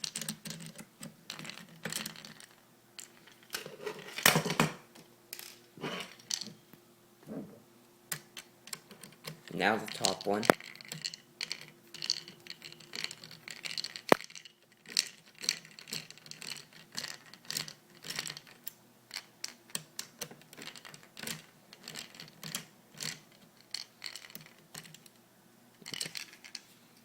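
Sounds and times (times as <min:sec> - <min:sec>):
parts clicking and rattling: 0:00.0 - 0:06.6, 0:08.1 - 0:27.0.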